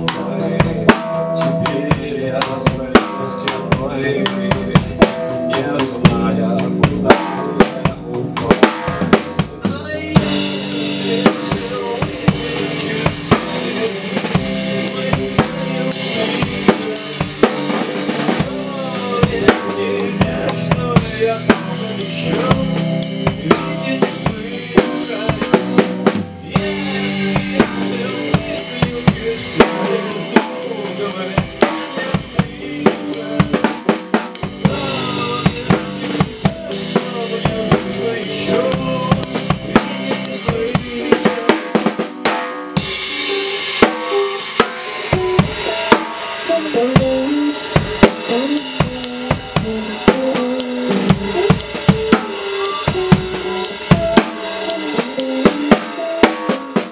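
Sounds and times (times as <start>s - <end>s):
band playing live: 0.0s - 56.9s
snare and bass drum strokes: 0.0s - 56.9s.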